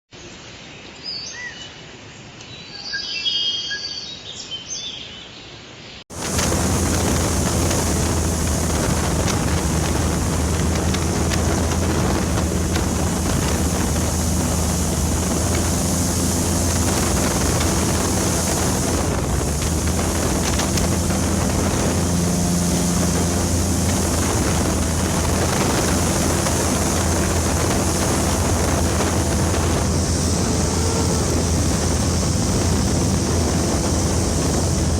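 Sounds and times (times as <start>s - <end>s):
boat engine droning: 6.1s - 34.9s
water and wind hiss: 6.1s - 34.9s.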